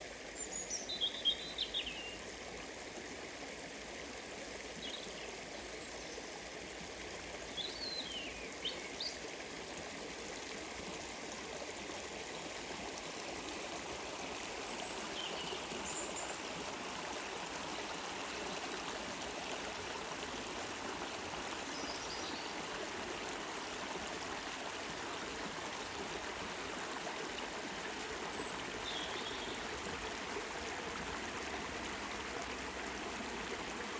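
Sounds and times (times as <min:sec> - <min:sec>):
stream water flowing: 0:00.0 - 0:33.9.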